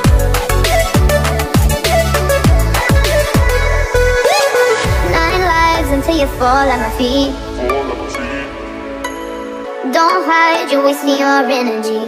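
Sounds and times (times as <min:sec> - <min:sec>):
electronic music with heavy bass: 0:00.0 - 0:10.5.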